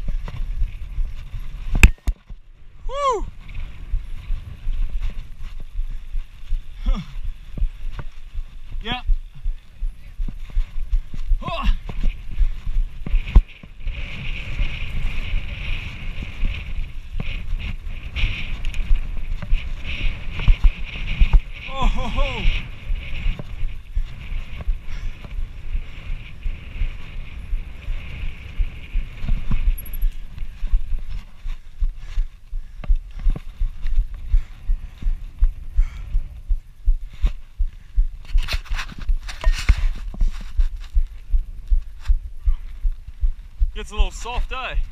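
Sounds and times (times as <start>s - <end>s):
bike tyres rumbling on sand: 0.0s - 44.9s.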